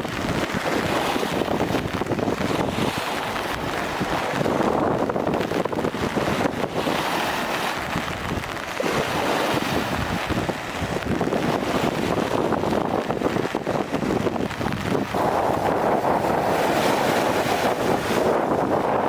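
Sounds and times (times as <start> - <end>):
gusty wind buffeting microphone: 0.0 - 19.0
waves washing against shore: 0.0 - 19.0.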